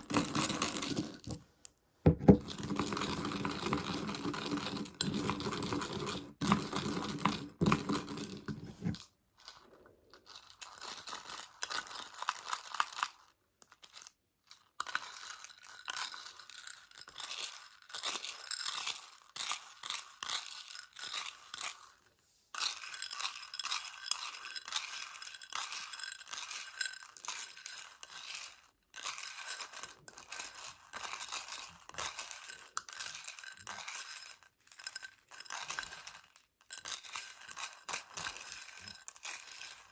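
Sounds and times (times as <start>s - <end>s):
chocolate pellets rattling in plastic container: 0.0s - 1.4s, 2.4s - 9.6s, 14.9s - 21.9s, 22.6s - 39.9s.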